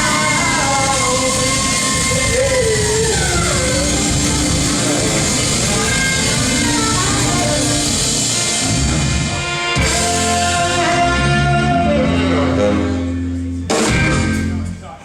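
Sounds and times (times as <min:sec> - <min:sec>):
live band playing instrumental: 0:00.0 - 0:14.8
drums: 0:00.0 - 0:15.0.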